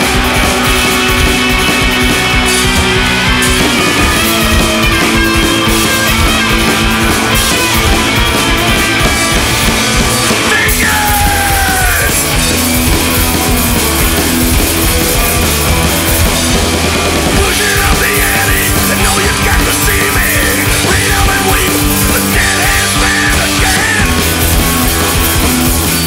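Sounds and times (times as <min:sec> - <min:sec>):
live punk rock band: 0:00.0 - 0:26.0.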